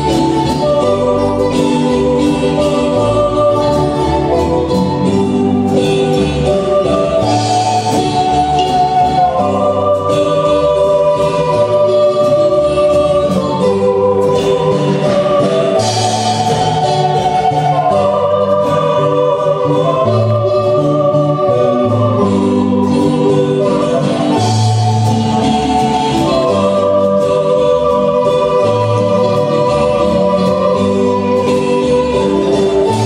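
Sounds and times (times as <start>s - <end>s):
marimba band music: 0.0s - 33.0s.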